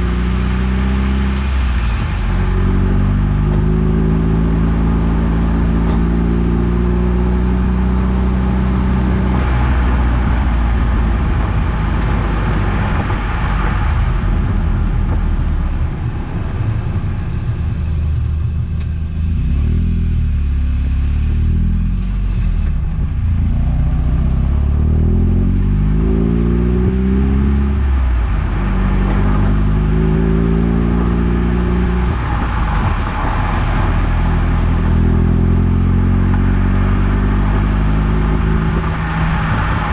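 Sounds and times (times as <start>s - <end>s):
car engine accelerating: 0.0s - 39.9s
road rumble: 0.0s - 39.9s.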